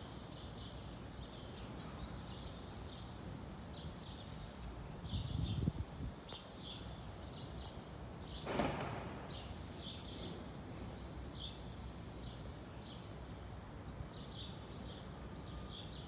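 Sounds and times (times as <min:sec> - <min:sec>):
small birds chirping: 0:00.0 - 0:08.5, 0:09.2 - 0:16.0.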